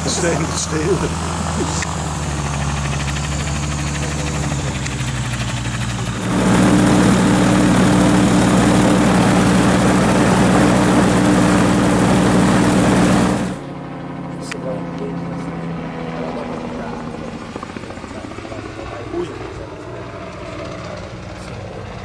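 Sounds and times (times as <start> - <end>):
gyrocopter engine and propeller drone: 0.0 - 22.0.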